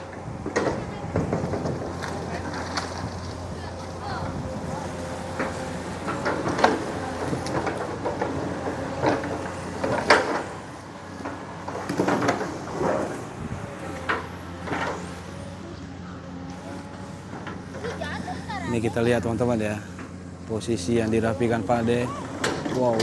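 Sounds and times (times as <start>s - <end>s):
excavator arm clunking and creaking: 0.0s - 23.0s
excavator diesel engine running: 0.0s - 23.0s.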